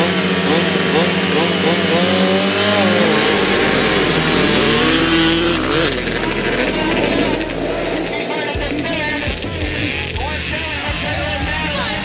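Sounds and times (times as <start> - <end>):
dirt-bike engines revving: 0.0 - 12.0.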